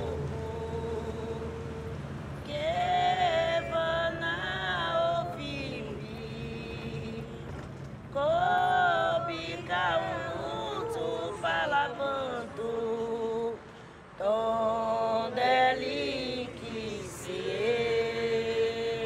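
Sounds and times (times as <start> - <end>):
person singing a slow chant: 0.0 - 19.0.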